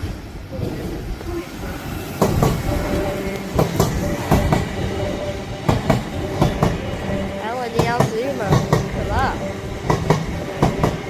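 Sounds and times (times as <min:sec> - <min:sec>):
train rumble and hum: 0:00.0 - 0:11.0
train wheels clicking over rail joints: 0:00.0 - 0:11.0.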